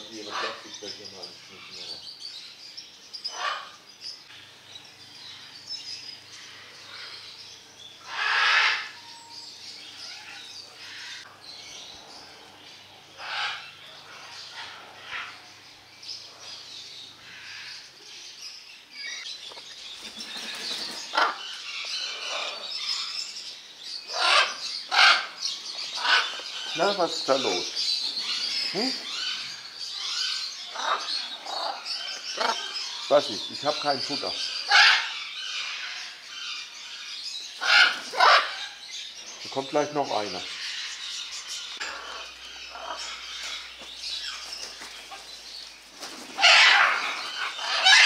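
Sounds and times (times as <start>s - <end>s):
birds calling noisily: 0.0s - 48.0s.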